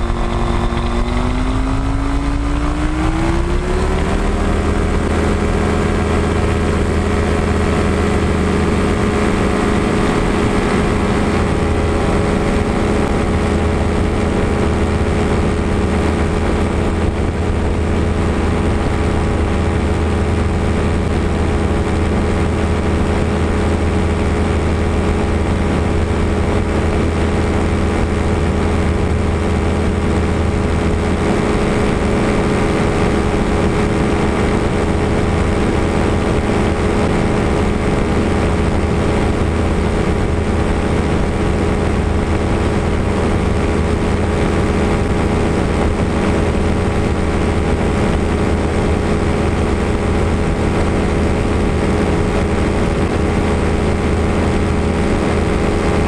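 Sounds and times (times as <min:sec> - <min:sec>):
low rumble: 0:00.0 - 0:55.4
small airplane engine and propeller: 0:00.0 - 0:56.0
wind rushing over microphone: 0:00.0 - 0:56.0.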